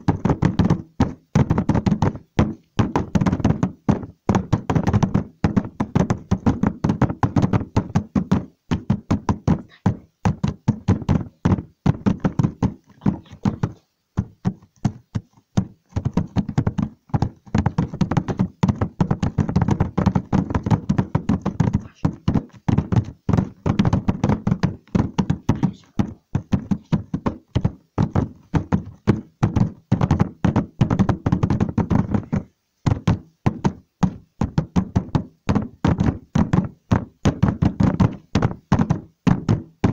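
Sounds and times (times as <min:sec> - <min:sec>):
rapid knocks and taps: 0:00.0 - 0:39.9.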